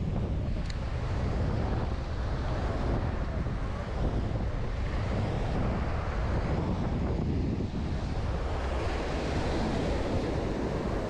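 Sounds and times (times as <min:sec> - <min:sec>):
wind blowing on microphone: 0:00.0 - 0:11.0.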